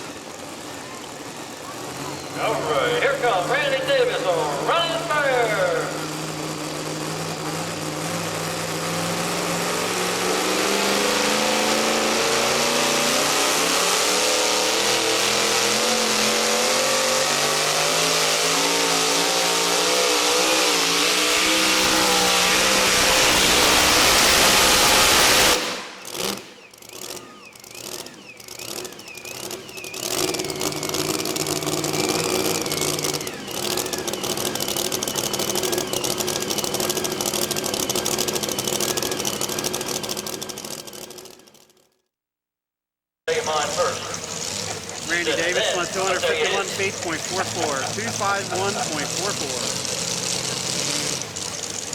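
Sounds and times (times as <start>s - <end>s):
truck engine at full throttle: 0.0s - 41.9s, 43.3s - 51.9s.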